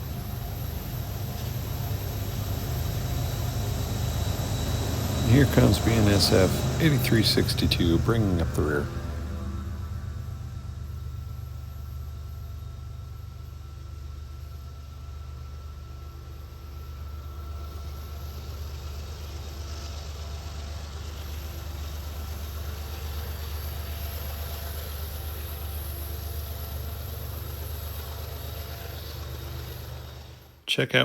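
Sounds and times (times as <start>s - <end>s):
rolling train wheels hissing: 0.0s - 30.6s
locomotive engine drone: 0.0s - 31.0s.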